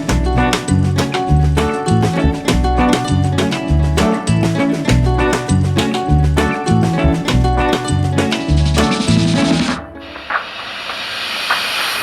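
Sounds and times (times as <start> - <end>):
upbeat music with bass and percussion: 0.0 - 9.9.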